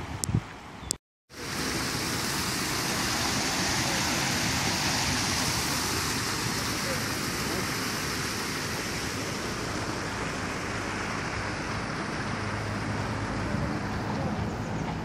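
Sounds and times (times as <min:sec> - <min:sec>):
wind rumbling on microphone: 0:00.0 - 0:01.0, 0:01.7 - 0:15.0
stream rushing over stones: 0:01.3 - 0:15.0.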